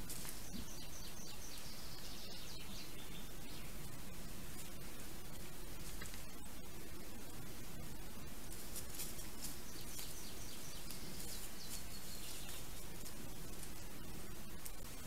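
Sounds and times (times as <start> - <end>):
birds chirping: 0.0 - 15.0
microphone hiss: 0.0 - 15.0.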